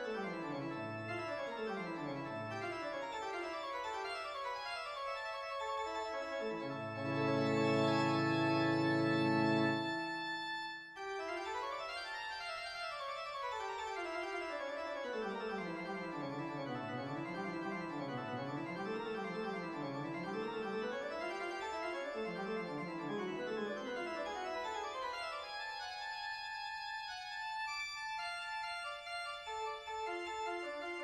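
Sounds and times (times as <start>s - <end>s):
organ-like keyboard music: 0.0s - 31.0s.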